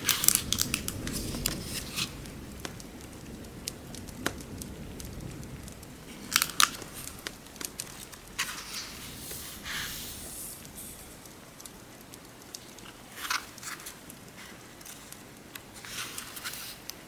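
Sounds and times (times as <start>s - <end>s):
fire low rumble: 0.0s - 16.0s
fire crackling and popping: 0.0s - 17.0s
soft rustle: 0.0s - 17.0s.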